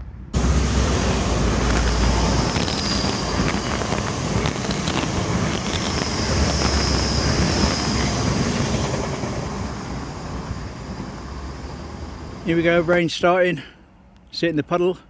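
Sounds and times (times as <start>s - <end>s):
wind buffeting microphone: 0.3s - 12.4s.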